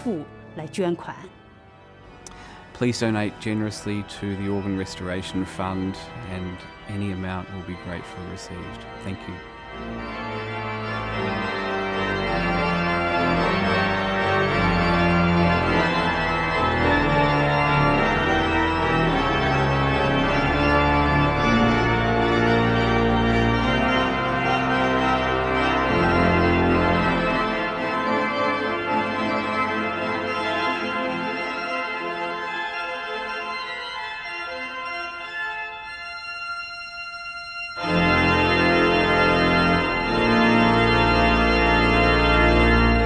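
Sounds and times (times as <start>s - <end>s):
pipe organ playing chords: 0.0s - 43.0s.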